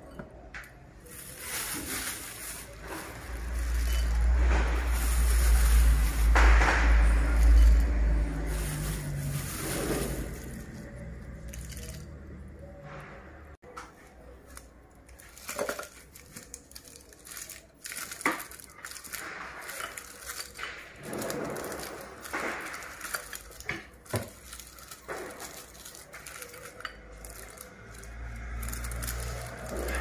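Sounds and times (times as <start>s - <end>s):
candy wrappers crinkling: 0.9s - 12.6s, 14.0s - 30.0s.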